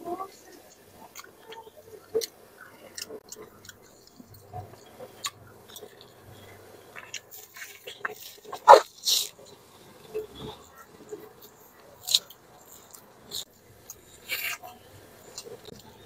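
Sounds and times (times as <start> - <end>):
wet chewing: 0.4 - 16.0.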